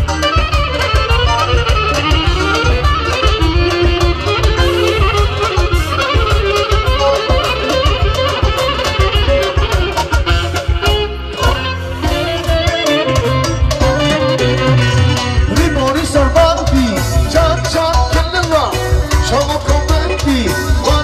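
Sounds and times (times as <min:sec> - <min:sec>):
instrumental folk dance music: 0:00.0 - 0:21.0.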